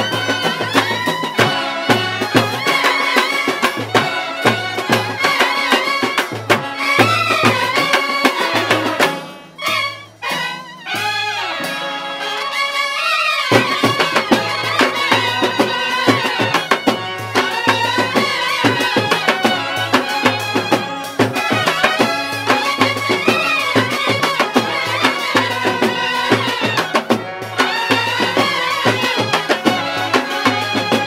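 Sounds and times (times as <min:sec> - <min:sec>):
drums and cymbals: 0:00.0 - 0:12.7, 0:13.4 - 0:31.0
brass band melody: 0:00.0 - 0:31.0.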